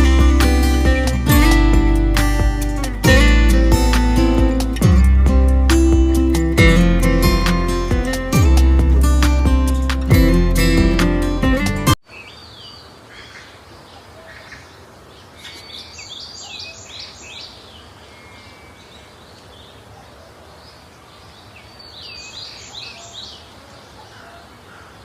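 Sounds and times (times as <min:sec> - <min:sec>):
steady low hiss: 0:00.0 - 0:25.0.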